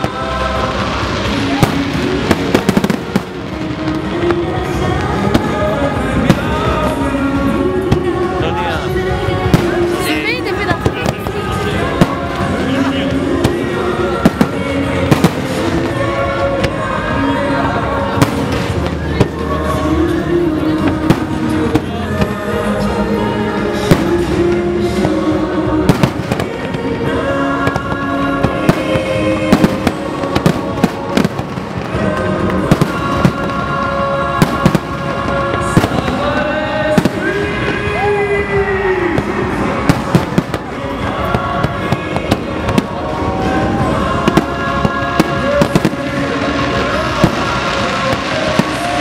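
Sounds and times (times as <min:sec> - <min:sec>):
fireworks bangs and cracks: 0:00.0 - 0:49.0
music with sustained notes: 0:00.0 - 0:49.0.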